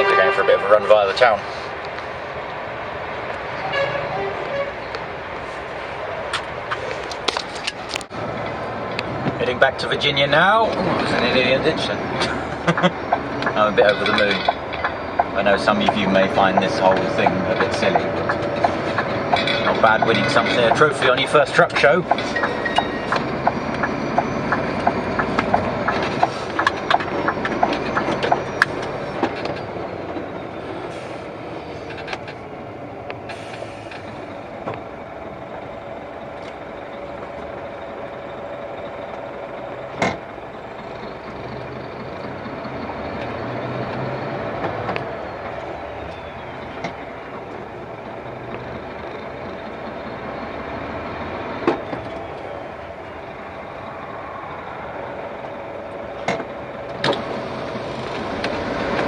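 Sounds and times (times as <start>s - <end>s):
lorry engine and road noise: 0.0s - 59.0s.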